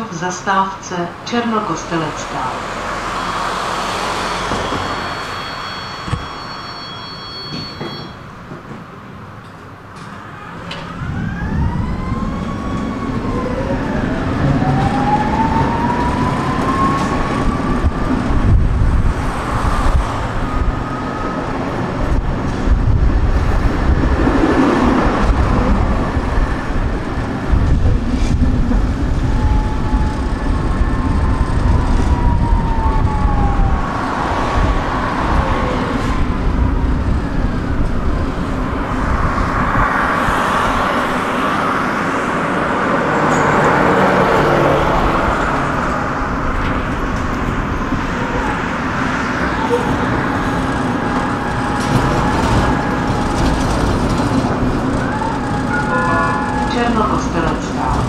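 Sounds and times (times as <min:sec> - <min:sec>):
tram motors whining: 0:00.0 - 0:58.0
wheels rumbling on rails: 0:01.1 - 0:58.0.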